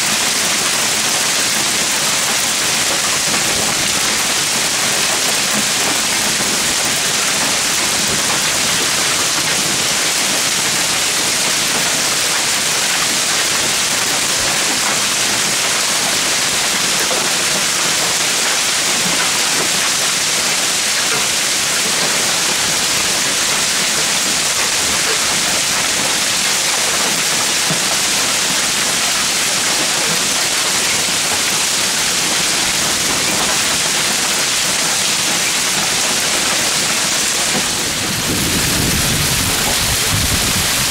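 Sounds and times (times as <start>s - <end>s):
hail and rain pelting down: 0.0s - 40.9s.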